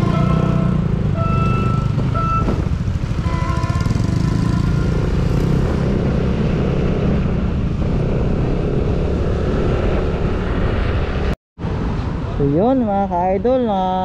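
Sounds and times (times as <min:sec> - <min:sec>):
wind and motorcycle engine: 0:00.0 - 0:12.4.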